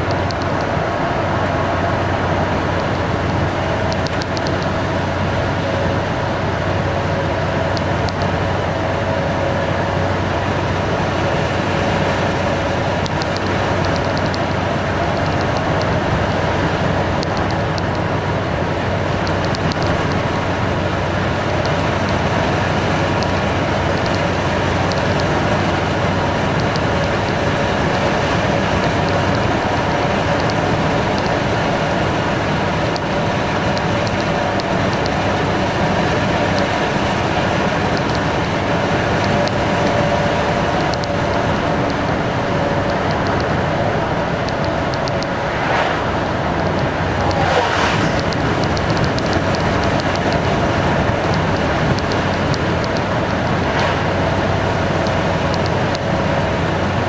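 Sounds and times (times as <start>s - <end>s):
road noise: 0.0s - 57.0s
wind noise: 0.0s - 57.0s.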